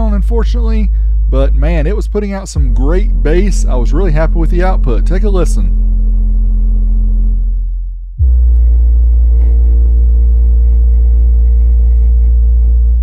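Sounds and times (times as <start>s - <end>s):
deep bass notes from subwoofer: 0.0s - 13.0s.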